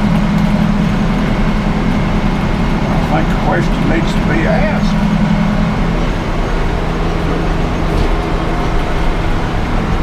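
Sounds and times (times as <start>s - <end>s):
sawmill machinery humming: 0.0s - 10.0s.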